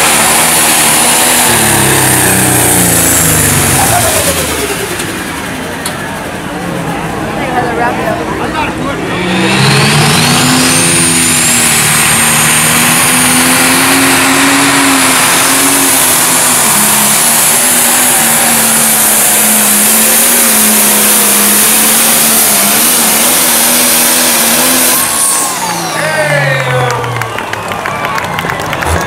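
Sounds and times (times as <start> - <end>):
diesel tractor engine at full throttle: 0.0 - 29.0
high turbo whine: 0.0 - 29.0.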